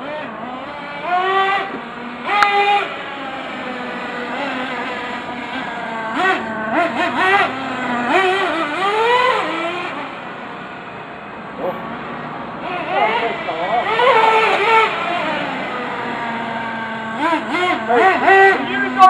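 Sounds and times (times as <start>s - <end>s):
toy truck motor revving: 0.0s - 10.6s, 12.6s - 19.0s.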